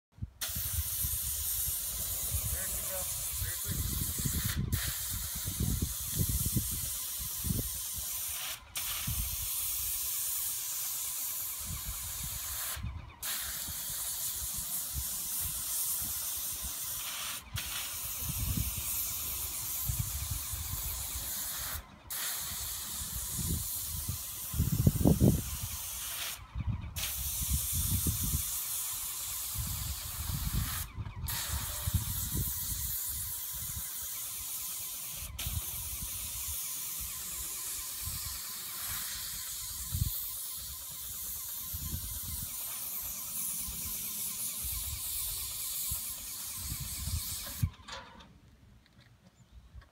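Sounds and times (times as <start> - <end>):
paint spray gun hissing: 0.4 - 47.9.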